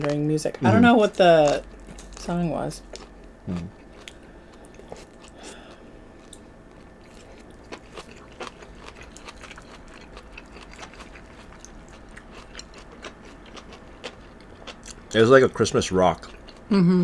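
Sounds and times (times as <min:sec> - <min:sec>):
people chewing noodles: 0:02.9 - 0:17.0.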